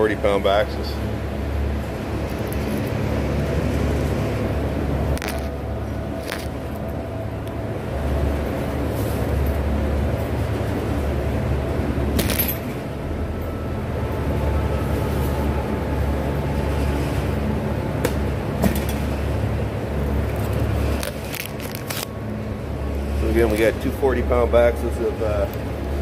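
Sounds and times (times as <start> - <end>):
low machinery hum: 0.0 - 26.0.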